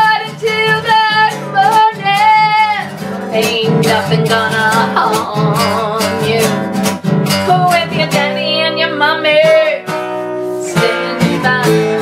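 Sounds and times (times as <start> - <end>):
acoustic guitar strumming: 0.0 - 12.0
woman singing: 0.0 - 12.0.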